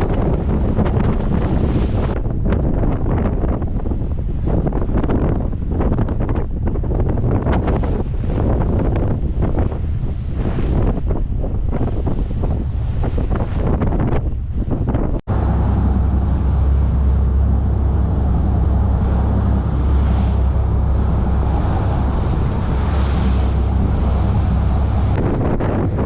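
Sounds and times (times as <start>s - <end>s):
boat engine humming: 0.0s - 26.0s
water noise: 0.0s - 26.0s
wind: 0.0s - 26.0s.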